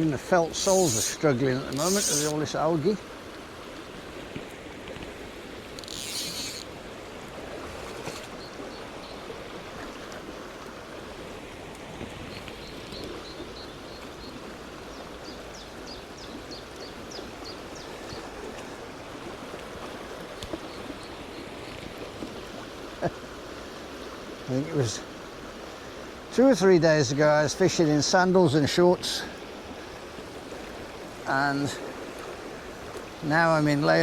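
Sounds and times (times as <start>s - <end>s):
stream water flowing over rocks: 0.0s - 34.0s.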